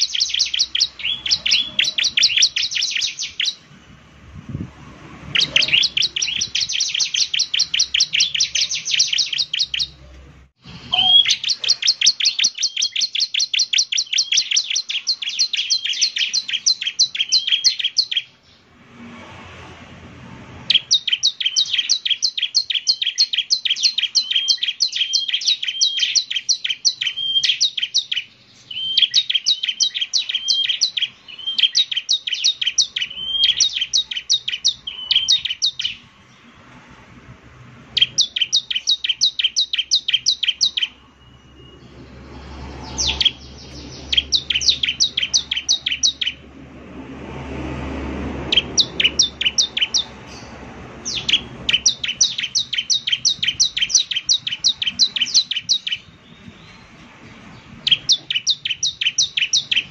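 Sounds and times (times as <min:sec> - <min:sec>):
bird singing rapid high chirps: 0:00.0 - 0:18.9, 0:20.5 - 0:59.9.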